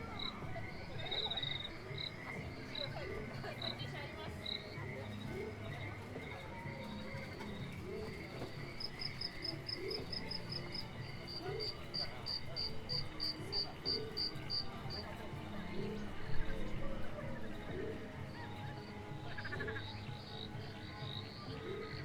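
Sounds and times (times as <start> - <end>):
low background murmur: 0.0 - 22.0.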